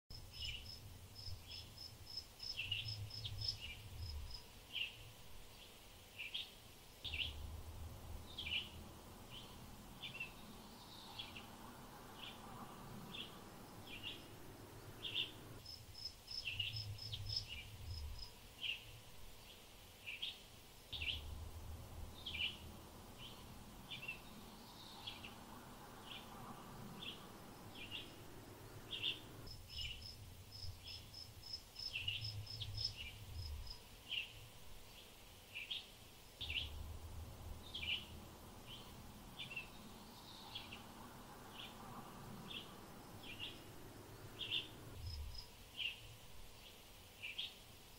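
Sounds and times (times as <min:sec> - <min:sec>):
faint low rumble: 0:00.1 - 0:05.5, 0:07.0 - 0:19.3, 0:20.9 - 0:33.8, 0:36.4 - 0:46.5
songbirds chirping: 0:00.1 - 0:47.9.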